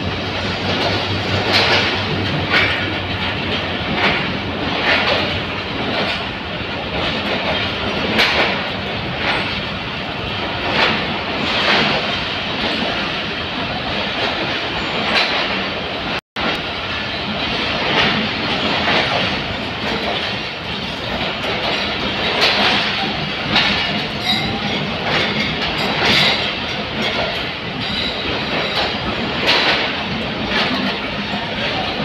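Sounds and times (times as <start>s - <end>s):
train wheels clacking over rail joints: 0.0s - 32.0s.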